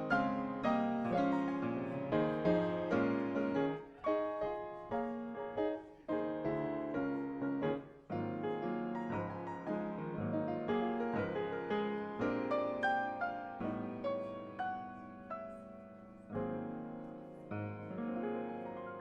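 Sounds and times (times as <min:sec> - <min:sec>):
slow hymn-like piano piece: 0:00.0 - 0:19.0.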